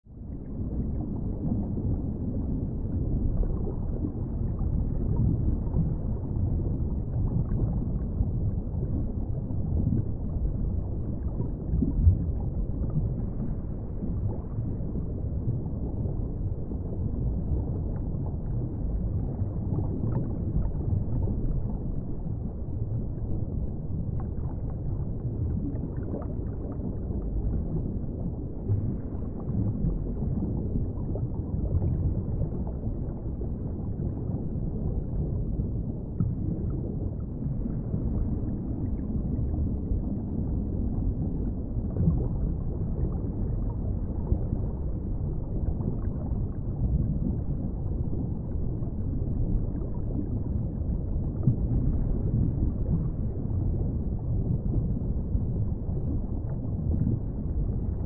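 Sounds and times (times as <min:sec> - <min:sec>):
muffled underwater rumble: 0:00.0 - 0:58.0.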